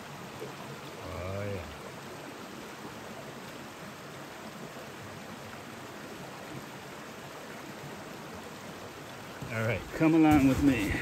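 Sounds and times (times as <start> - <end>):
brook flowing water: 0.0 - 11.0.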